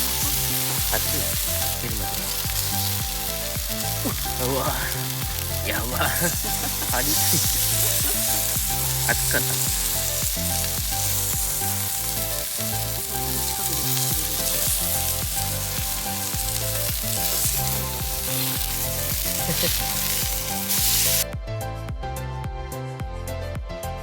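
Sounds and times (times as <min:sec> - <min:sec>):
food sizzling over a fire: 0:00.0 - 0:21.3
background music with a beat: 0:00.0 - 0:24.0.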